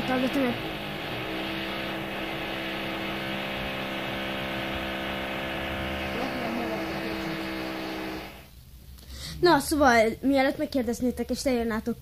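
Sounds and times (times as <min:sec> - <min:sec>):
steady hum: 0:00.0 - 0:09.7.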